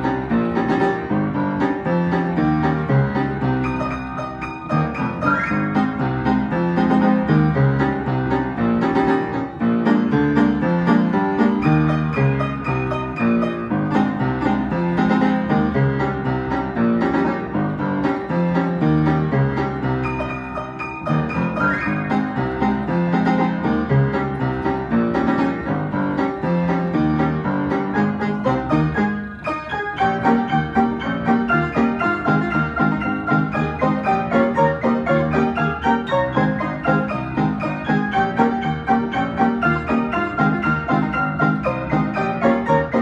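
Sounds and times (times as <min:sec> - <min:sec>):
piano playing a march: 0:00.0 - 0:43.0.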